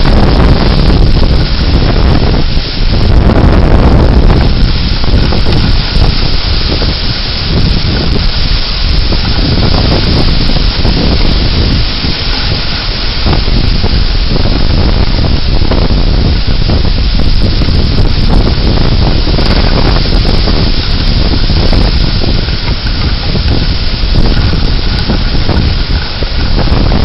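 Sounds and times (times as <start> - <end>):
strong wind rushing: 0.0 - 27.0
wind buffeting microphone: 0.0 - 27.0.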